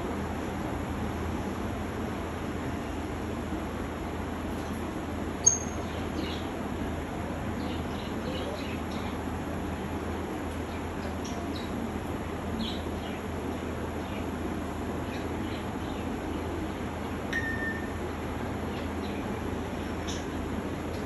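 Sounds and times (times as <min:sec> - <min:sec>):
background hiss and hum: 0:00.0 - 0:21.0.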